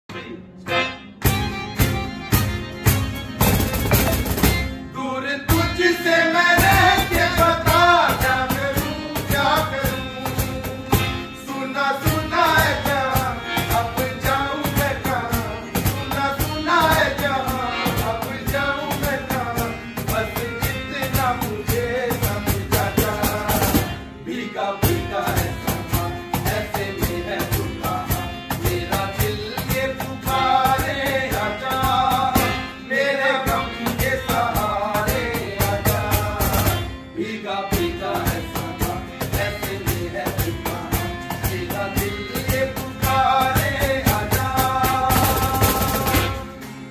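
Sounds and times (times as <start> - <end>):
strummed acoustic guitar: 0.1 - 46.9
cajon slapped in steady beat: 1.2 - 4.8, 5.5 - 11.3, 12.0 - 24.0, 24.8 - 32.8, 33.4 - 37.0, 37.7 - 46.9
man singing: 4.8 - 46.9.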